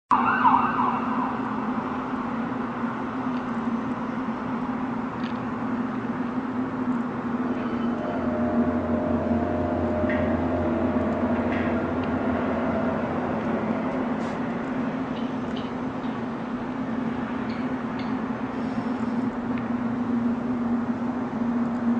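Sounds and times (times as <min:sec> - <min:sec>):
deeper drone: 0:00.2 - 0:21.9
low droning hum: 0:01.7 - 0:21.9.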